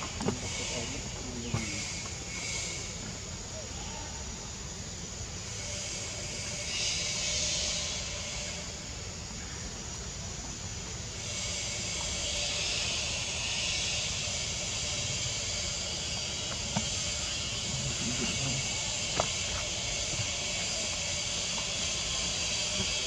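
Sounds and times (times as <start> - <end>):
high-pitched outdoor hiss: 0.0 - 23.0.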